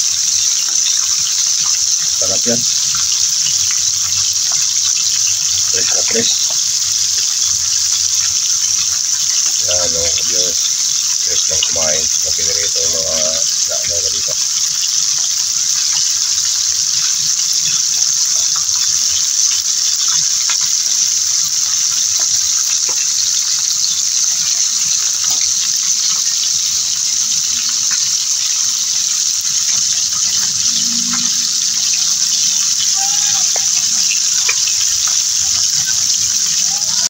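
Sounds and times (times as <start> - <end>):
fish deep-frying in oil: 0.0 - 37.0
oil popping and crackling: 0.0 - 37.0.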